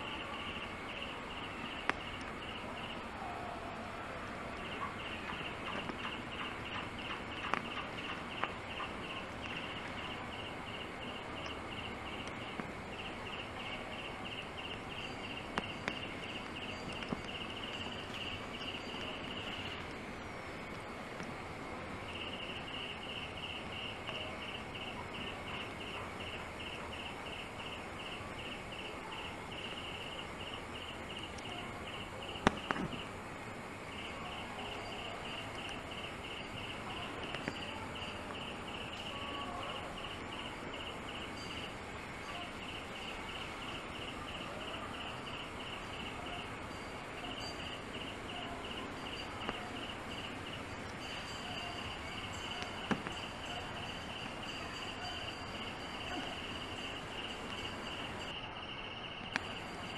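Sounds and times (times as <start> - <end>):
insect chirping: 0.0 - 3.3, 4.5 - 59.9
background hiss: 0.0 - 59.9.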